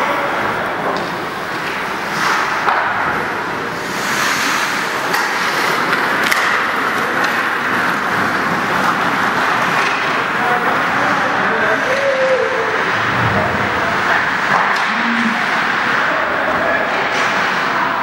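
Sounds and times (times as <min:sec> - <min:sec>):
ice rink crowd din: 0:00.0 - 0:18.0.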